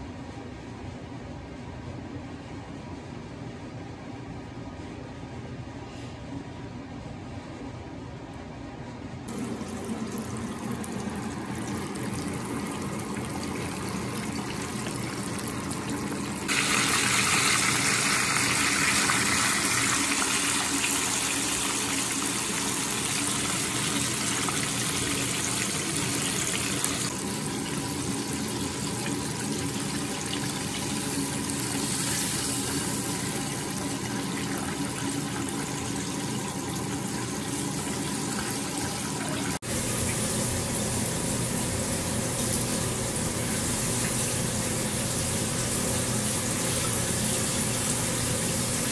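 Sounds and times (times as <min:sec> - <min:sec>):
chicken deep-frying in oil: 0:09.3 - 0:48.9.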